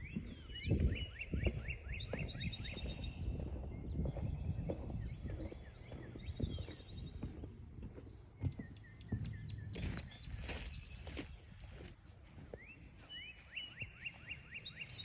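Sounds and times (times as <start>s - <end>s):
footsteps on forest trail: 0.0s - 15.0s
songbirds chirping: 0.0s - 15.0s.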